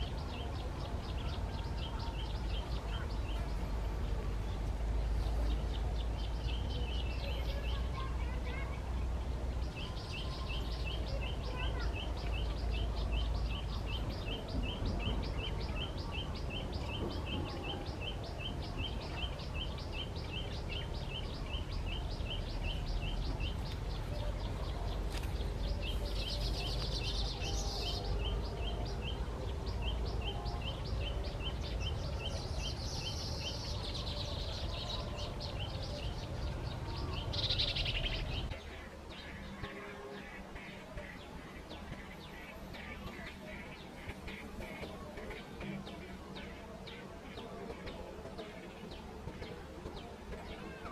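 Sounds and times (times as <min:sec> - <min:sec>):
bird chirping: 0:00.0 - 0:50.9.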